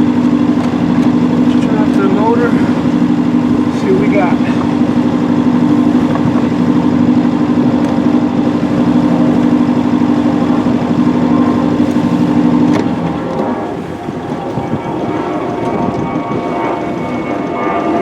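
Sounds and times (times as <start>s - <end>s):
boat engine droning: 0.0s - 18.0s
rushing noise: 0.0s - 18.0s.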